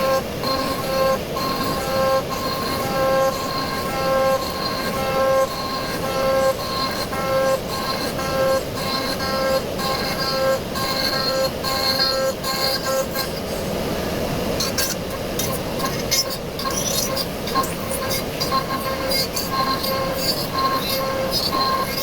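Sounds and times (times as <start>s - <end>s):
router cutting noise: 0.0s - 13.9s, 14.5s - 22.0s
machine whine: 0.0s - 22.0s.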